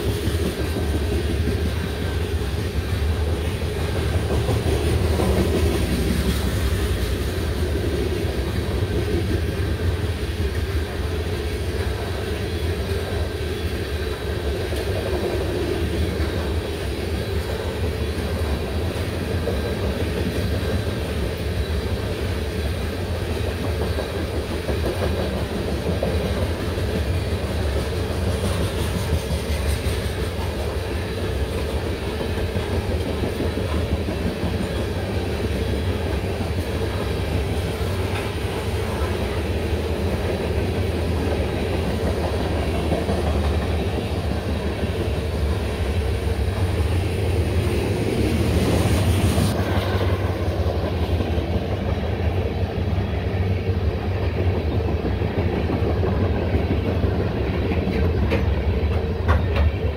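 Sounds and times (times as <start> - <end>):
freight train wheels rumbling on rails: 0.0 - 59.9.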